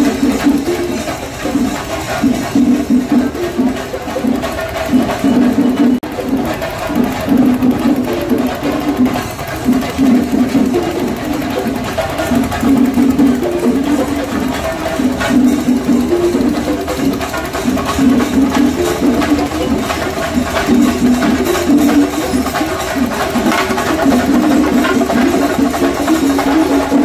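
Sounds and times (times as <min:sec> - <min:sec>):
fast drumming with sticks: 0:00.0 - 0:27.0.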